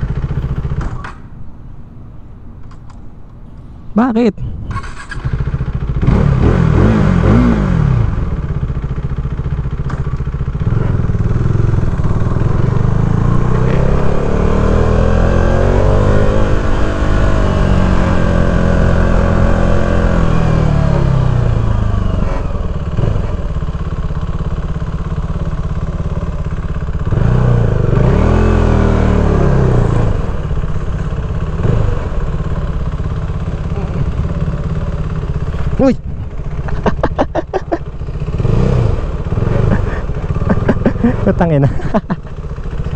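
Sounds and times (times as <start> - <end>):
motorcycle engine revving: 0.0 - 1.2, 4.6 - 42.9.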